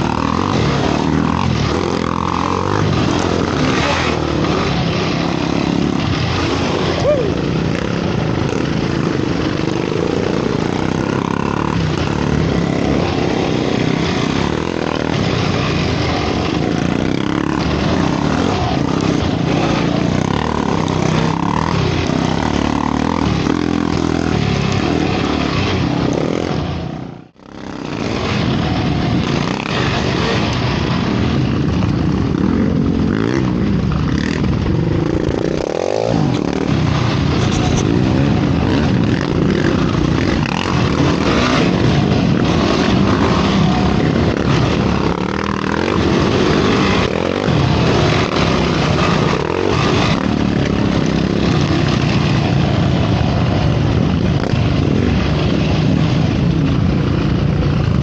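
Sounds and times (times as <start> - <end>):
quad bike engine running hard: 0.0 - 58.0.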